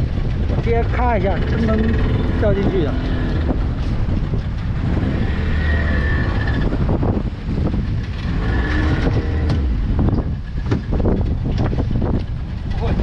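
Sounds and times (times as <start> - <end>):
boat engine rumbling: 0.0 - 13.0
wind buffeting microphone: 0.0 - 13.0.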